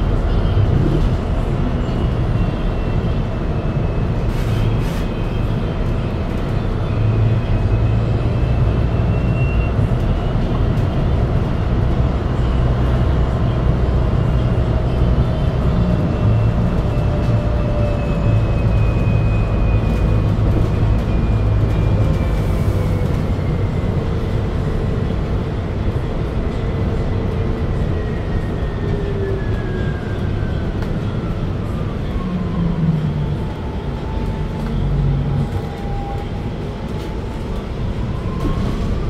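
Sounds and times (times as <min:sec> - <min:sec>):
bus cabin rumble: 0:00.0 - 0:39.0.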